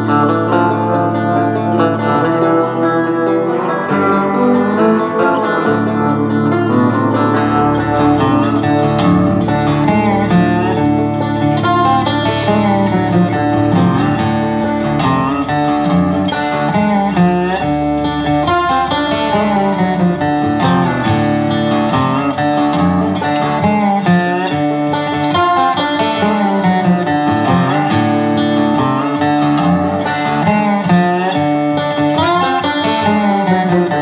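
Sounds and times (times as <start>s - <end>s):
plucked acoustic guitar music: 0.0s - 34.0s.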